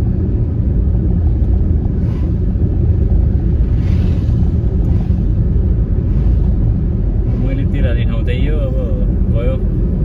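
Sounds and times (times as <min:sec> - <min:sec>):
minivan driving low rumble: 0:00.0 - 0:10.0.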